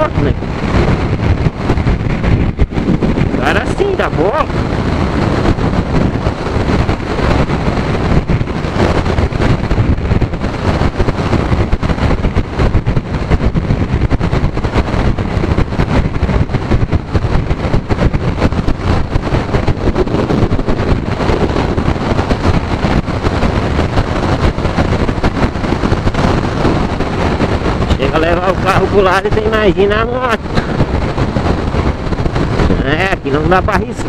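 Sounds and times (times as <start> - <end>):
motorcycle engine: 0.0 - 32.9
road noise: 0.0 - 34.0
wind buffeting microphone: 0.0 - 34.0.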